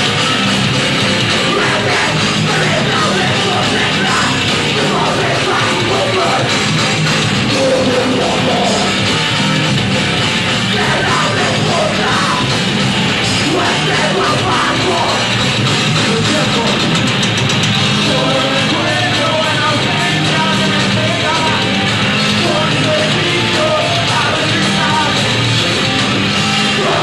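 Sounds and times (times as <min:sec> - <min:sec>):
heavy metal band playing: 0:00.0 - 0:27.0
shouted vocals: 0:01.3 - 0:09.2, 0:10.5 - 0:17.0, 0:18.0 - 0:27.0.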